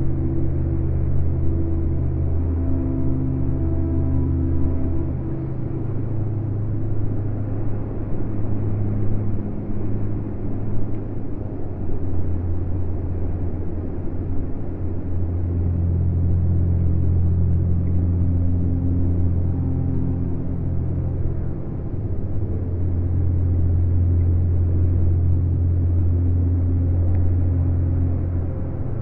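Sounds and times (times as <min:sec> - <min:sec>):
low rumbling ambient drone: 0:00.0 - 0:29.0.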